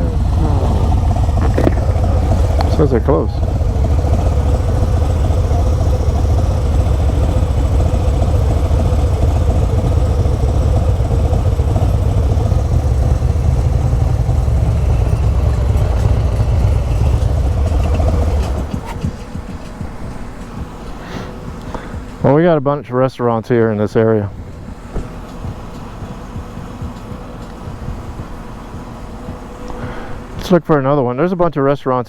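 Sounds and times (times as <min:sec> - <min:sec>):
motorcycle engine idling: 0:00.0 - 0:22.4, 0:24.2 - 0:30.8.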